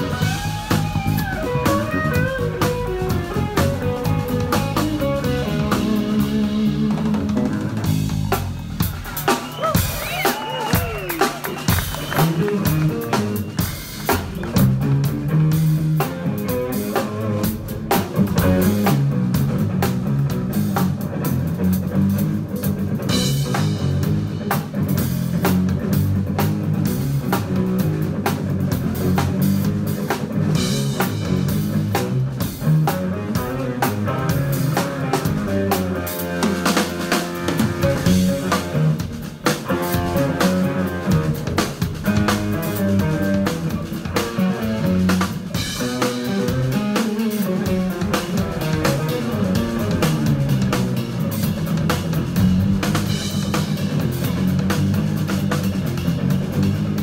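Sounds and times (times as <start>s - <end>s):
jazz-funk band playing: 0.0s - 57.0s.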